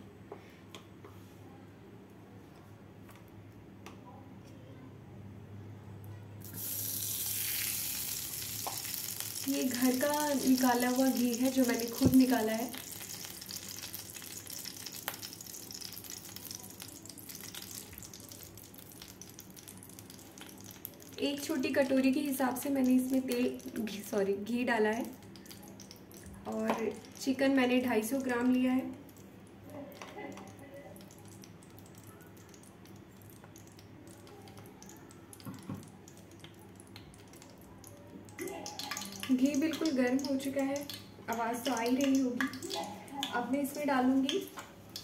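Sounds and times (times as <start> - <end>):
ghee sizzling with crackles: 6.4 - 45.0.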